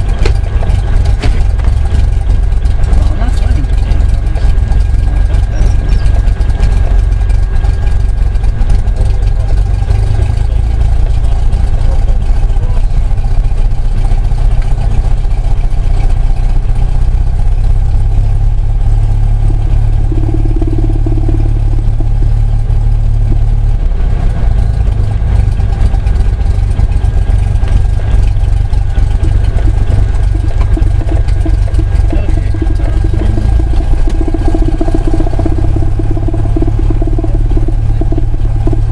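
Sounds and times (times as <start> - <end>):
plane engine idling: 0.0 - 38.9.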